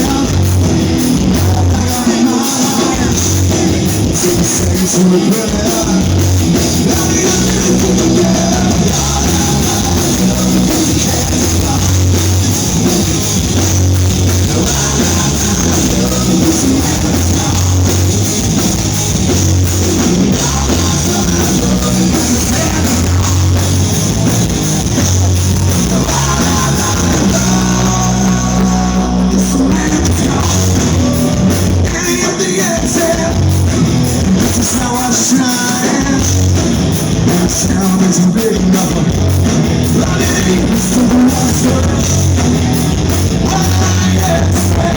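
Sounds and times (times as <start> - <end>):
bass guitar: 0.0 - 44.9
drums: 0.0 - 44.9
electric guitar: 0.0 - 44.9.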